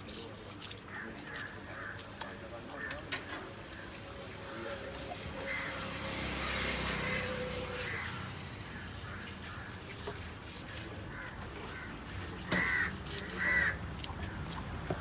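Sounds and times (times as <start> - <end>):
crows cawing: 0.9 - 4.7, 5.3 - 14.3.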